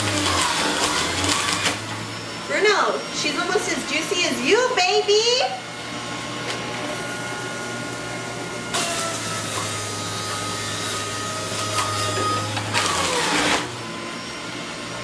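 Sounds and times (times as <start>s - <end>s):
juicer grinding: 0.0s - 3.2s, 5.6s - 15.0s
juicer motor humming: 0.0s - 4.9s, 5.5s - 15.0s.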